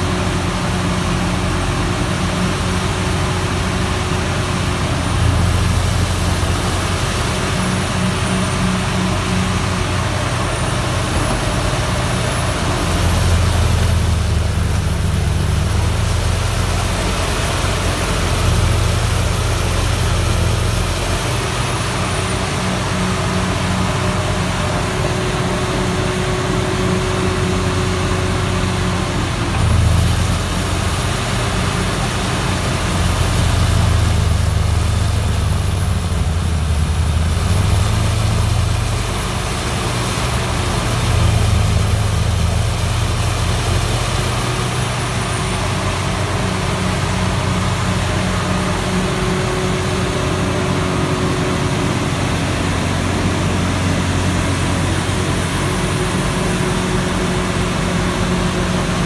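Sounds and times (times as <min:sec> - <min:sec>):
engines running under load: 0:00.0 - 0:59.0.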